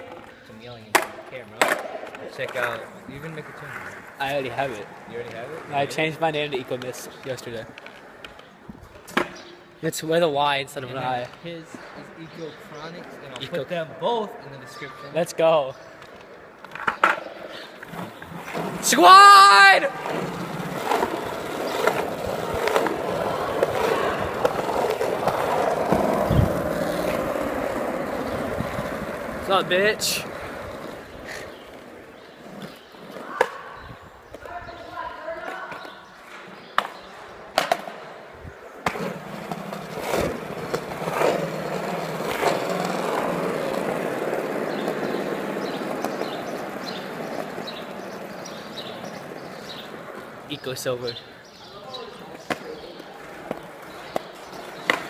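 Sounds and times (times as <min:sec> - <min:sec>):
skateboard wheels rolling on concrete: 0:00.0 - 0:55.0.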